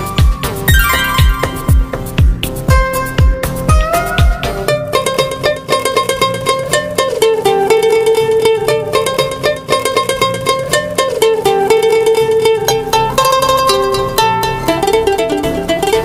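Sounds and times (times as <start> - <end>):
bright plucked-string tune: 0.7 - 16.0.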